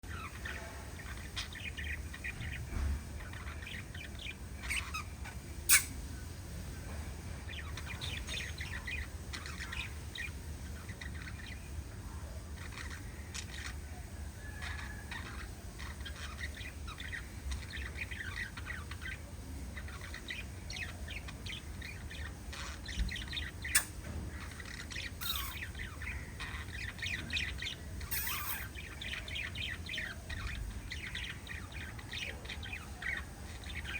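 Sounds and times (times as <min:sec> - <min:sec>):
parrots chirping and chattering: 0:00.0 - 0:33.9.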